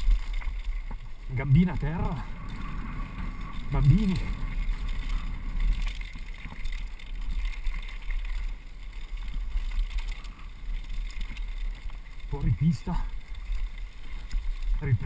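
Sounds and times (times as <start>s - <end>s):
bike rattles and knocks: 0.0s - 15.0s
low steady rumble: 0.0s - 15.0s
wind buffeting microphone: 0.0s - 15.0s.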